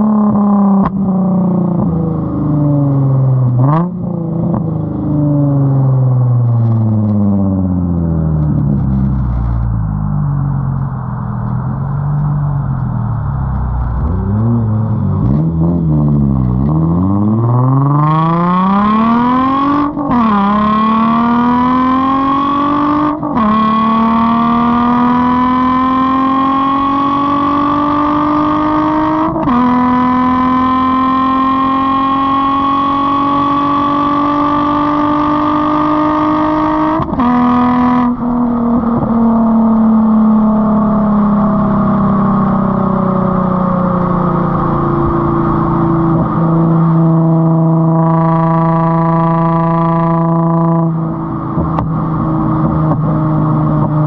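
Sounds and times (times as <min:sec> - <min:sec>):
car exhaust revving and accelerating: 0:00.0 - 0:54.0.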